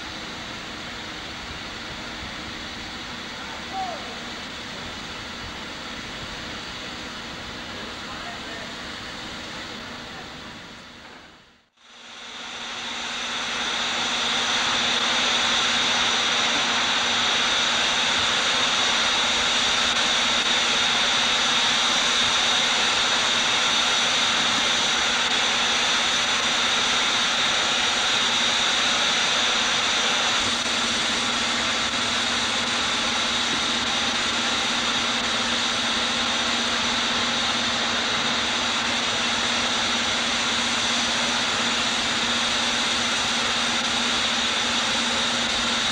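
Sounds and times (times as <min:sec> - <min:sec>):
steam hissing from locomotive: 0:00.0 - 0:45.9.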